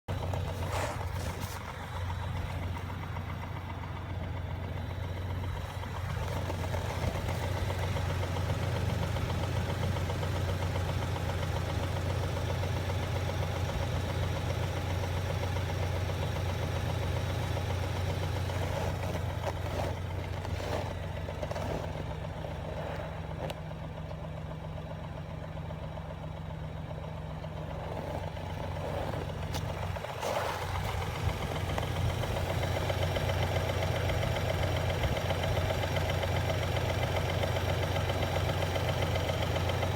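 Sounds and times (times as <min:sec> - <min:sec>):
truck engine idling with knock: 0:00.0 - 0:39.9.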